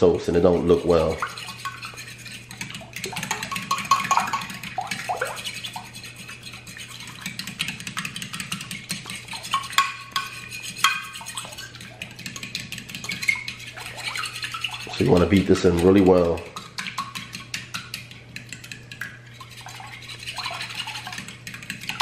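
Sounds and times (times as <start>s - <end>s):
fork beating eggs in glass dish: 0.1s - 22.0s.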